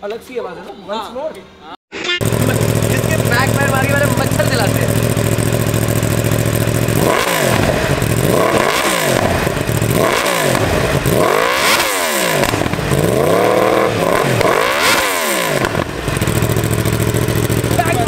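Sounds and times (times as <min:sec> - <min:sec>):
motorbike engine idling and revving: 0:02.2 - 0:18.0.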